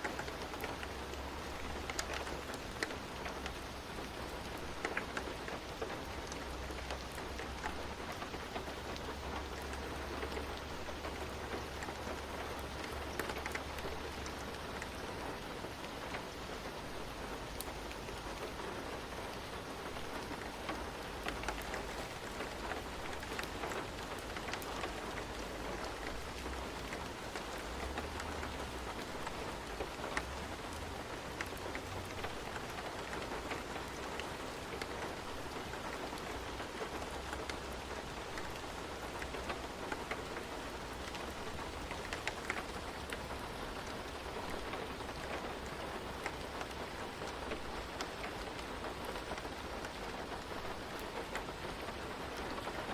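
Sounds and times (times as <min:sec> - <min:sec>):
raindrops ticking: 0:00.0 - 0:52.9
steady rain falling: 0:00.0 - 0:52.9.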